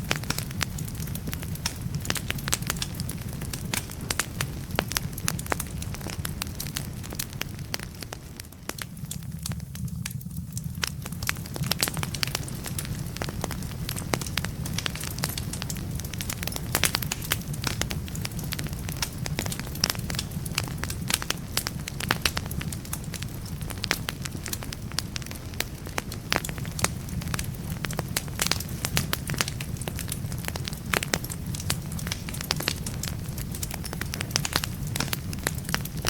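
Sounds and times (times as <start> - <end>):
low fire rumble: 0.0 - 36.0
wood fire crackling and popping: 0.0 - 36.0.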